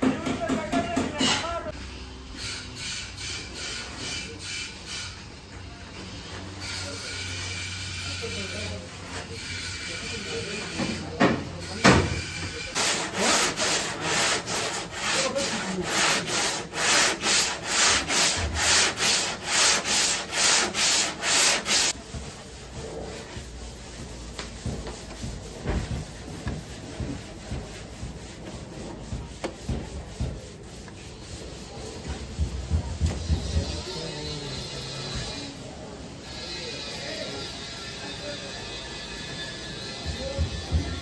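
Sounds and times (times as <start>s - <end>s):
sanding scraping strokes: 2.3s - 5.4s, 6.0s - 41.0s.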